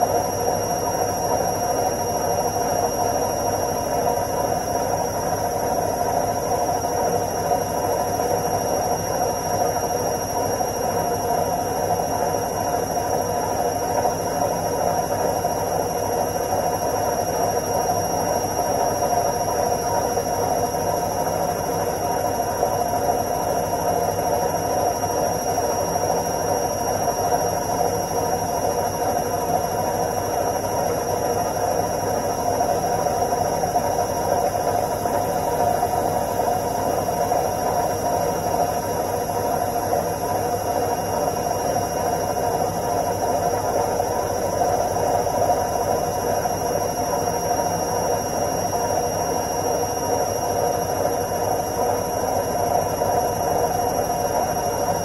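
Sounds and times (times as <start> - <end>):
washing machine spin cycle hum: 0.0 - 55.0.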